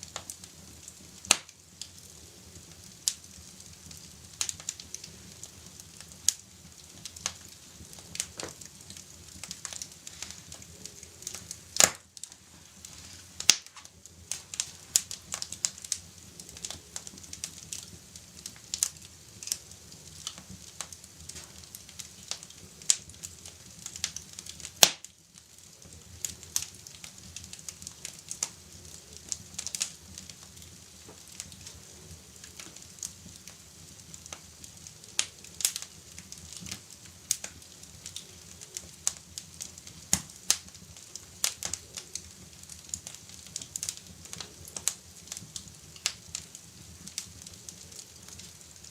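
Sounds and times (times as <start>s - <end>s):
loud fire snaps: 0.0s - 48.9s
wood fire crackling: 0.0s - 48.9s.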